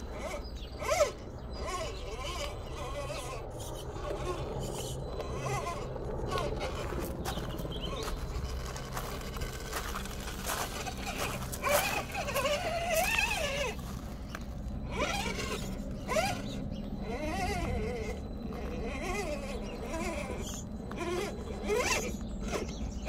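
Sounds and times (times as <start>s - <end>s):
rc car motor whining: 0.0s - 23.0s.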